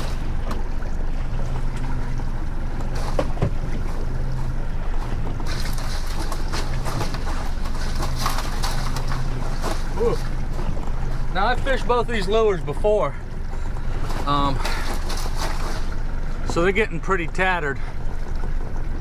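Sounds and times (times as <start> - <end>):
outboard motor humming: 0.0 - 19.0
water noise: 0.0 - 19.0
wind: 0.0 - 19.0.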